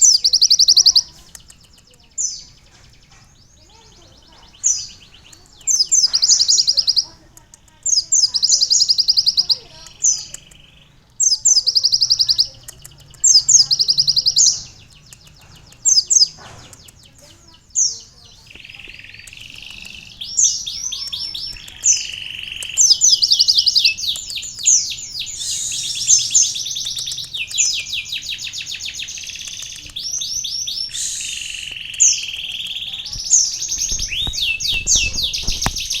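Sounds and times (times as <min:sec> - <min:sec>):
bird singing rapid trills: 0:00.0 - 0:36.0.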